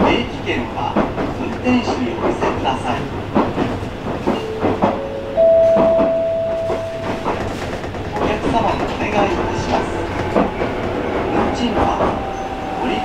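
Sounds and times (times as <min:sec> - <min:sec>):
train rumble inside passenger car: 0:00.0 - 0:13.0.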